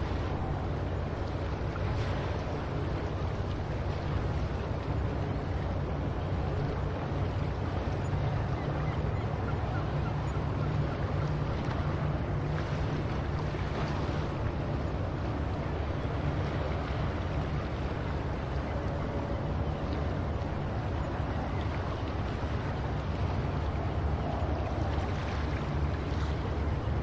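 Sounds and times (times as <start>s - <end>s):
ocean surf: 0.0s - 27.0s
wind: 0.0s - 27.0s.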